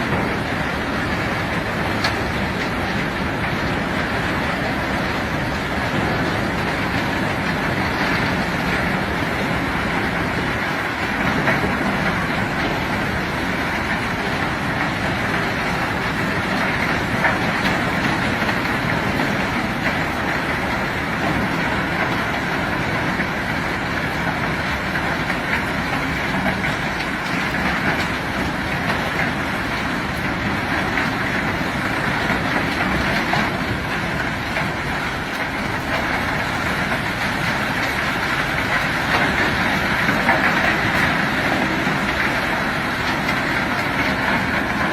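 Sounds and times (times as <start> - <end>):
heavy machinery unloading rock: 0.0 - 44.9.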